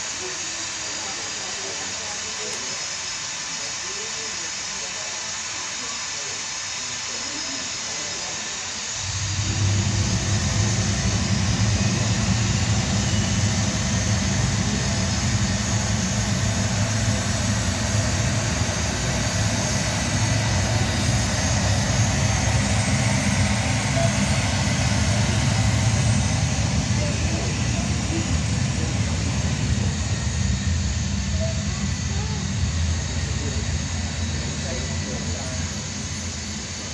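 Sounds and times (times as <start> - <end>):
jet takeoff over loudspeakers: 0.0 - 36.9.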